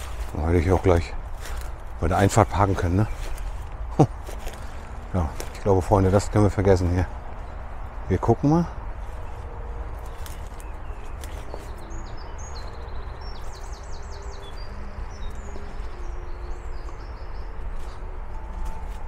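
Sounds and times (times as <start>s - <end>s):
small songbirds chirping: 0.0s - 19.0s
steady low rumble: 0.0s - 19.0s.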